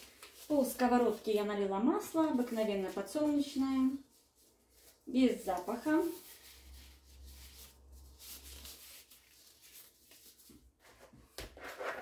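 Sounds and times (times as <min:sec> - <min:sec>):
plastic gloves crinkling: 0:00.0 - 0:10.9
gloved hands rubbing dough: 0:00.0 - 0:11.0.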